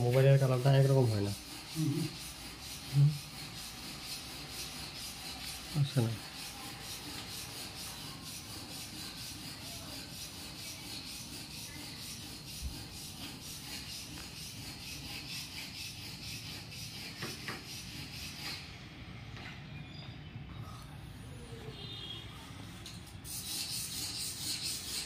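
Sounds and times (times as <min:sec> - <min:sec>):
rhythmic scraping on wood: 0:00.0 - 0:18.9, 0:23.2 - 0:25.0.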